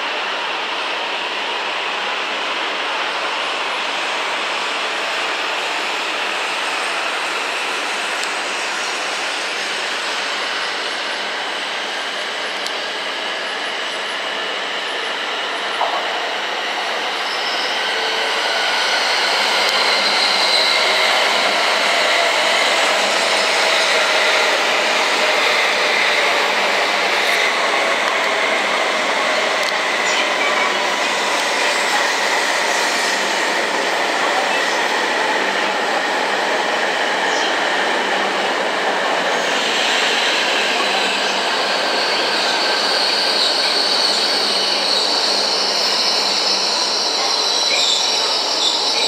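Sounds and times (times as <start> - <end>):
train rushing noise: 0.0 - 49.0.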